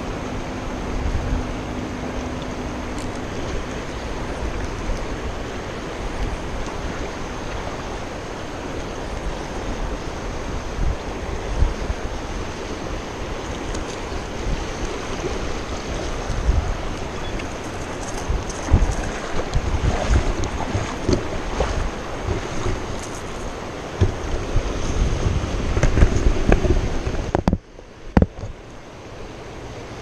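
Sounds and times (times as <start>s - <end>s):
river running over stones: 0.0s - 30.0s
wind buffeting microphone: 2.7s - 28.6s.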